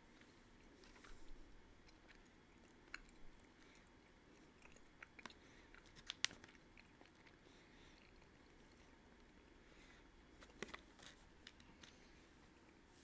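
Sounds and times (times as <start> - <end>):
chewing gummies: 1.8 - 12.8.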